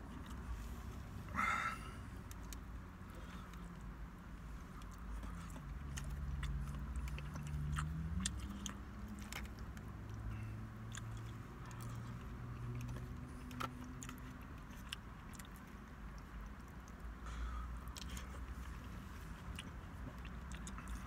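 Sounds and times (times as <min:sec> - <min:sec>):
low steady hum: 0:00.0 - 0:21.0
man chewing food: 0:00.0 - 0:21.0.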